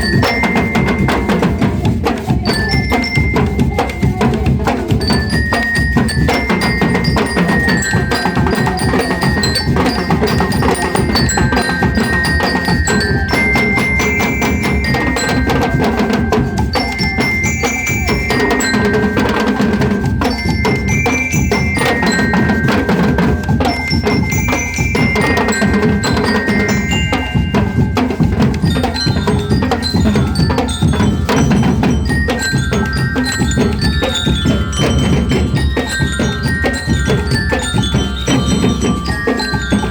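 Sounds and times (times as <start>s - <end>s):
bell lyres playing melody: 0.0s - 39.9s
steady drumming: 0.0s - 39.9s.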